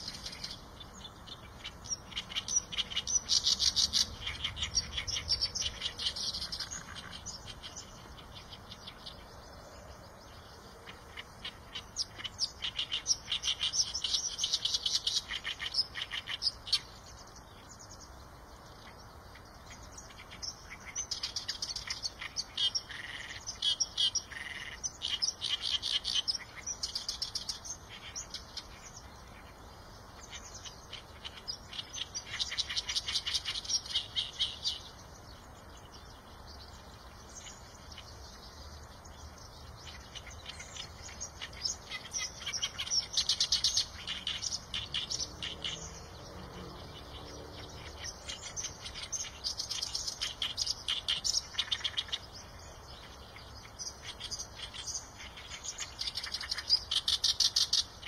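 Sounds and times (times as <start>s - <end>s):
songbird harsh rapid chirping: 0.0s - 58.0s.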